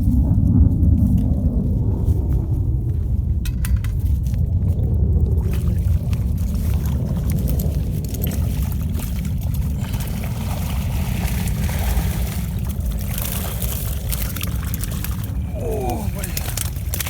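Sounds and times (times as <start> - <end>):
wind buffeting microphone: 0.0 - 17.0
water splashing and trickling: 0.9 - 17.0.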